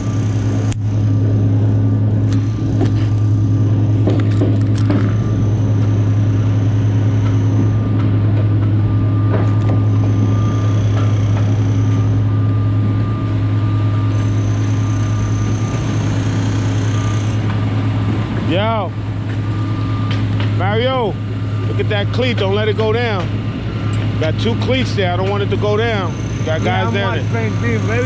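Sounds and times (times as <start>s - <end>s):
high-pitched whine: 0.0s - 28.0s
machine humming low: 0.0s - 28.0s.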